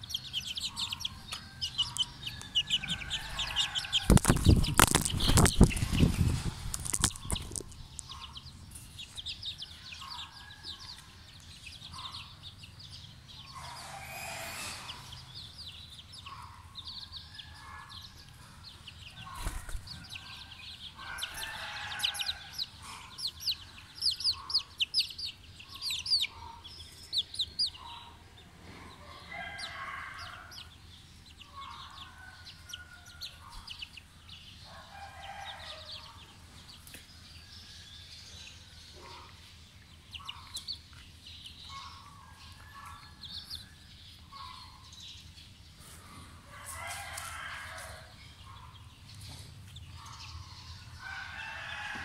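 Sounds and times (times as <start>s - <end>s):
chickens clucking: 0.0s - 37.4s, 38.2s - 52.0s
chicks peeping: 0.0s - 52.0s.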